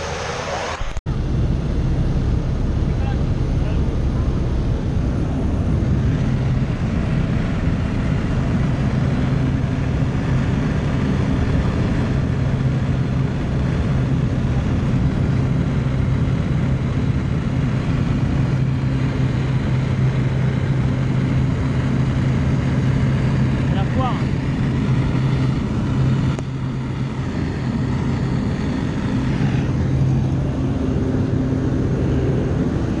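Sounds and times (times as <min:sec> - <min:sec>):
propeller plane engine drone: 0:00.0 - 0:33.0.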